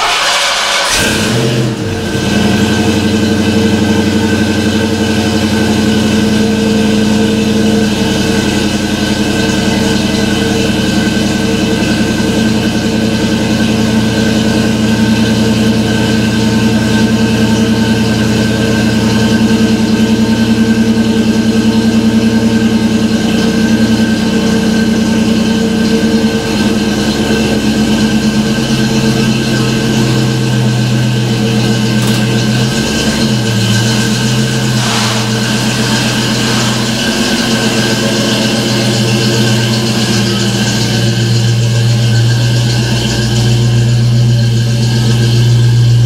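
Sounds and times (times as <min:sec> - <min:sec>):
car engine starting and idling: 0:00.0 - 0:46.0.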